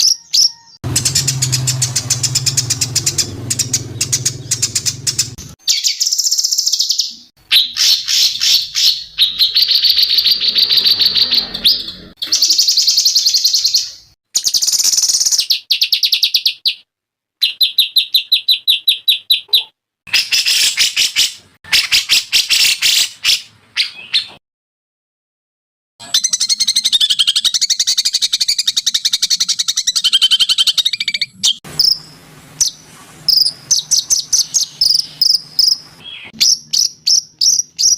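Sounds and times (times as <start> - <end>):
songbirds chirping and trilling: 0.0 - 24.4, 26.0 - 37.9.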